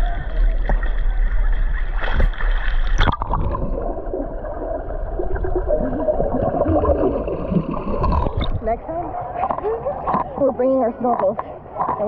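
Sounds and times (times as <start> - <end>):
underwater bubbling and gurgling: 0.0 - 12.0.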